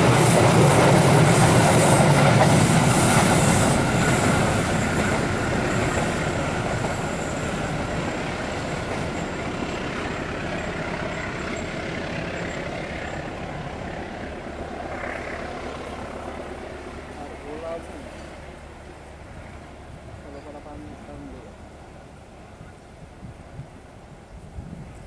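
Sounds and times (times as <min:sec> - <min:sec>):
passenger train rumbling past: 0:00.0 - 0:25.0.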